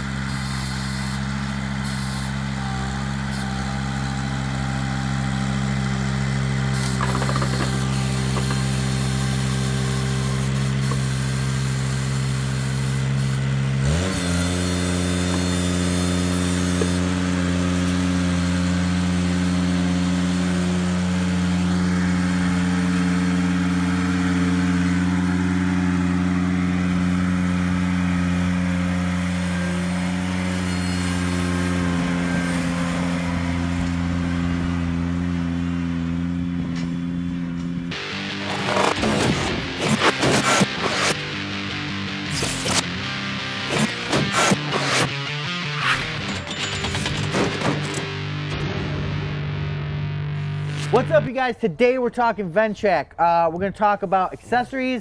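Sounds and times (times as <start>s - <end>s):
tractor diesel engine revving: 0.0s - 51.4s.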